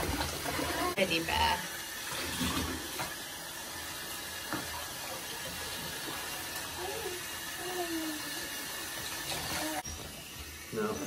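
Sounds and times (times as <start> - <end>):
shower head spraying water: 0.0 - 11.0.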